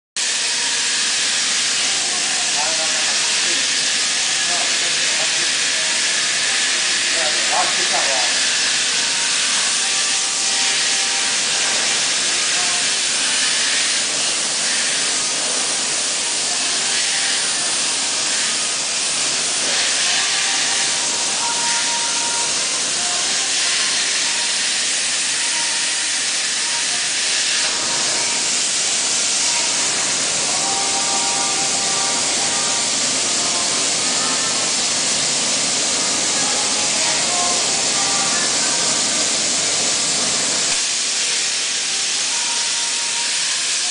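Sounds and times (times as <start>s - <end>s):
plasma cutter torch hissing: 0.2s - 43.9s.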